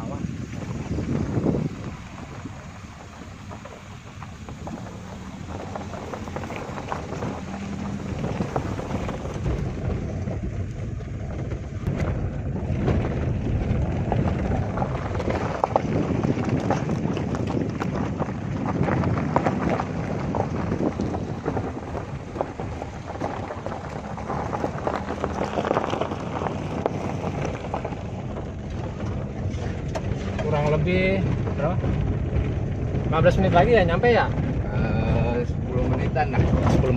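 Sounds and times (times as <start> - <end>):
car engine humming: 0.0 - 36.9
tyres rumbling on dirt road: 0.0 - 36.9.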